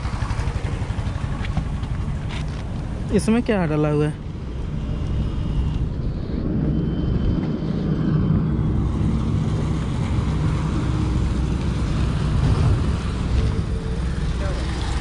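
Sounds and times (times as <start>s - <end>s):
traffic low rumble: 0.0s - 15.0s.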